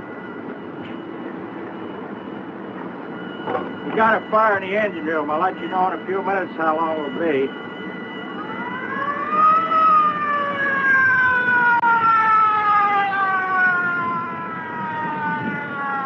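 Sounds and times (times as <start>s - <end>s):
fire engine siren: 0.0s - 16.0s.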